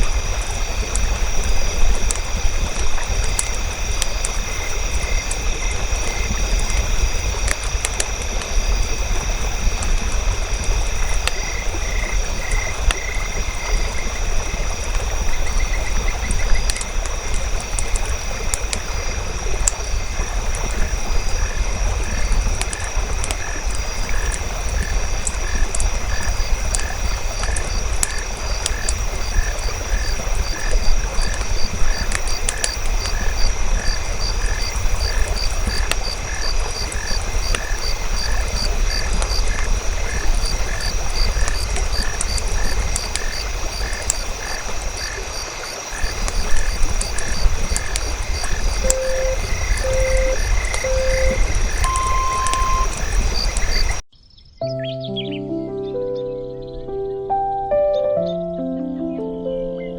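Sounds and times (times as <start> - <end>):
campfire crackling and popping: 0.0 - 54.0
frogs calling: 0.0 - 59.9.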